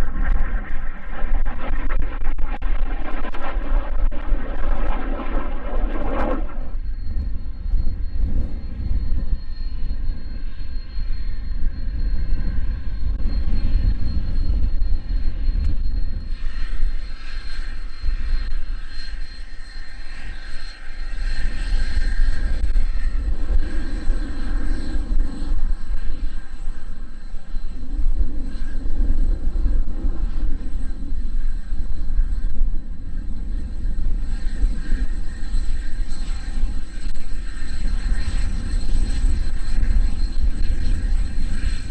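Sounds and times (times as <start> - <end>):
higher jet whine: 0.0 - 41.9
jet engines whining: 0.0 - 41.9
wind rumbling on microphone: 0.0 - 41.9.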